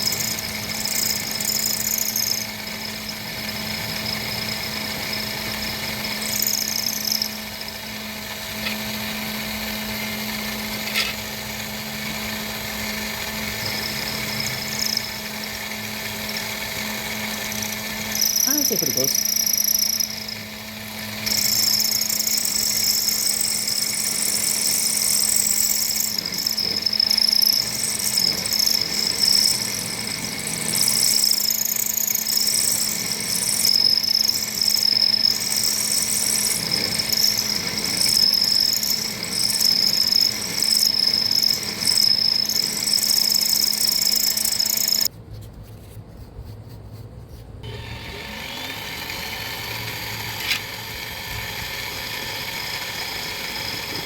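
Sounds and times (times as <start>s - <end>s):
high wavering metal cutting noise: 0.0s - 45.1s, 47.6s - 54.0s
motor hum: 0.0s - 45.1s, 47.6s - 54.0s.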